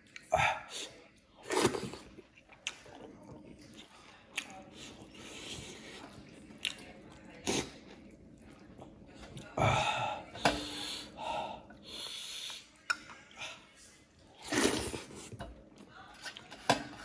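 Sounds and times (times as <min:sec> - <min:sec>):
man chewing food: 0:00.0 - 0:16.5.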